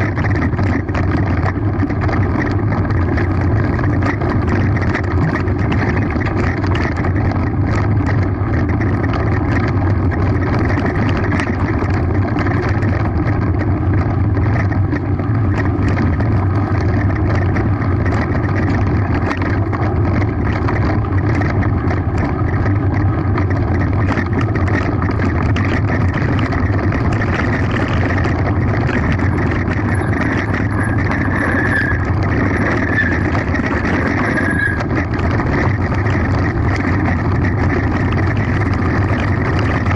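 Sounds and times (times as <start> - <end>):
bike rattling and knocking: 0.0 - 39.9
tyres rumbling on rough track: 0.0 - 39.9
wind rush on microphone: 0.0 - 39.9.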